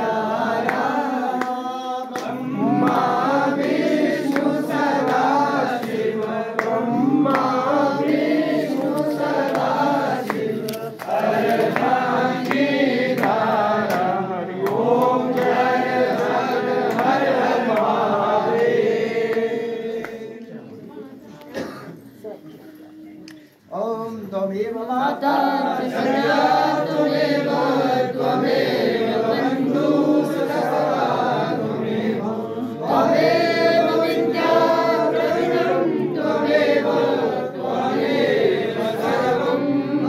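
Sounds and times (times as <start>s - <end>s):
group singing a hymn: 0.0s - 21.9s, 23.8s - 40.0s.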